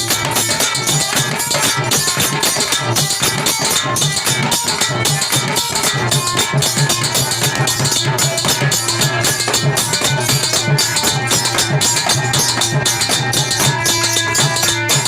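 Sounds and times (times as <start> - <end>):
drum steady beat: 0.0 - 15.0.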